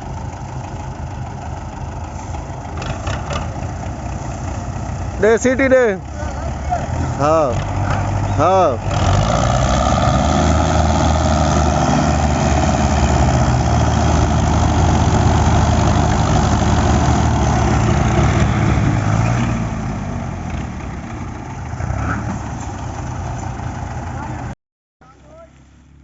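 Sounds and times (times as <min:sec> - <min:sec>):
tractor engines running under load: 0:00.0 - 0:26.0.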